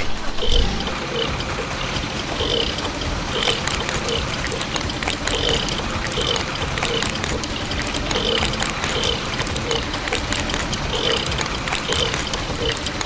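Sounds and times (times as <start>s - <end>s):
small clicks and spatters: 0.4s - 13.0s
wet cement pouring: 1.1s - 13.0s.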